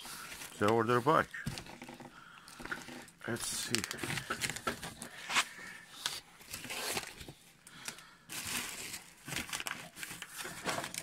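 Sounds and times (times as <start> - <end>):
paper and plastic wrap crinkling: 0.0 - 1.8, 2.6 - 11.0.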